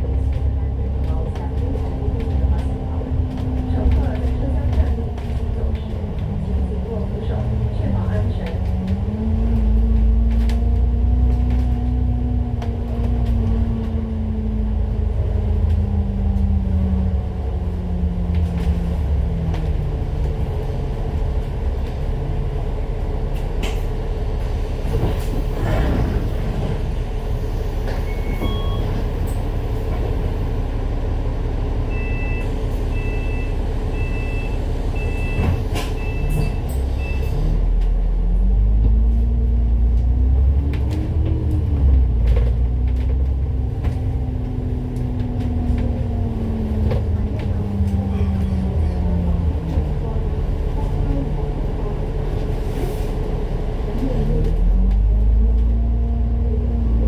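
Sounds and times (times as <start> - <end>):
bus engine: 0.0 - 57.0.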